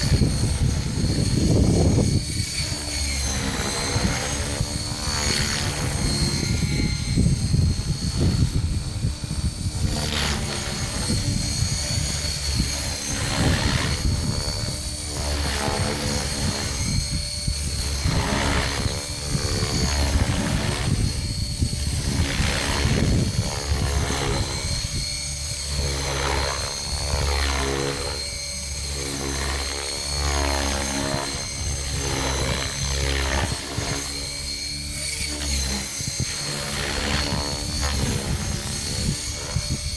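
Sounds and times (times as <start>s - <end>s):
helicopter rotor buzzing: 0.0s - 39.9s
motor and gear whine: 0.0s - 39.9s.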